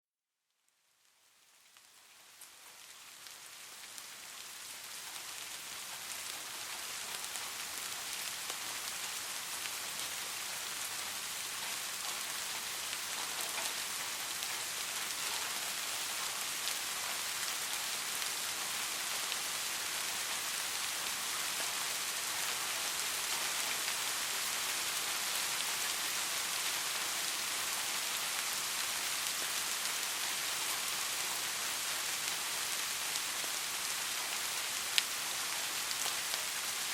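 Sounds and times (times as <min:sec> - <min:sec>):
steady rain falling: 0:00.7 - 0:36.9.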